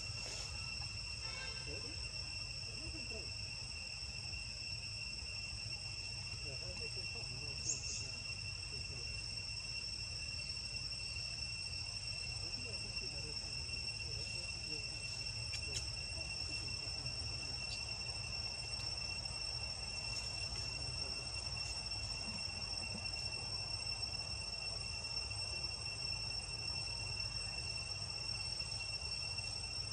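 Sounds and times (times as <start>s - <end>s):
insects droning: 0.0s - 29.9s.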